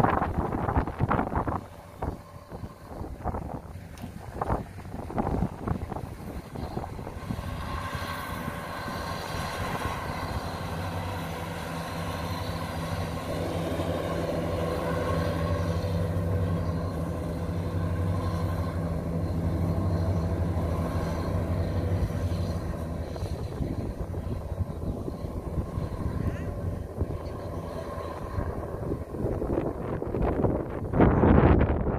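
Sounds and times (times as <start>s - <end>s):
combine harvester diesel engine: 0.0s - 31.9s.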